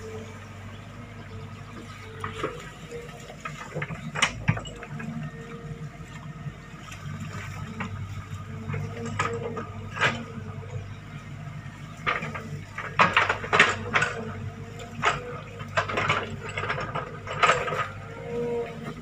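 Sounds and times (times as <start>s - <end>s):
excavator engine running: 0.0s - 19.0s
mud sloshing and squelching: 0.1s - 19.0s.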